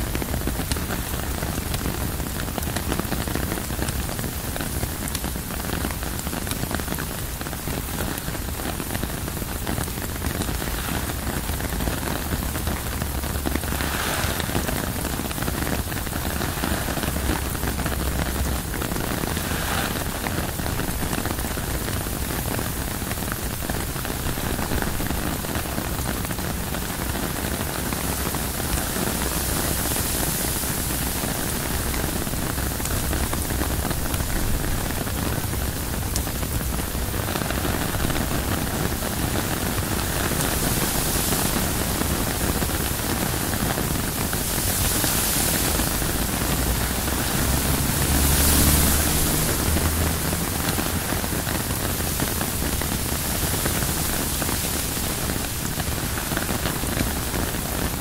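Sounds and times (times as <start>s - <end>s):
rain on tent fabric: 0.0s - 58.0s.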